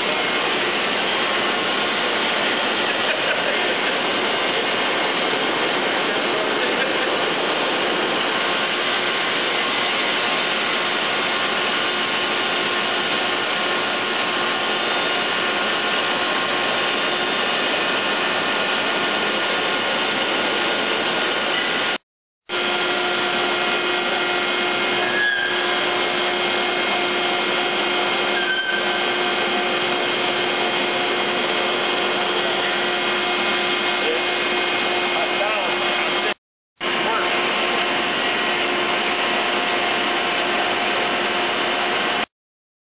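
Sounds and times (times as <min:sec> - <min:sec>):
machinery whir: 0:00.0 - 0:42.3.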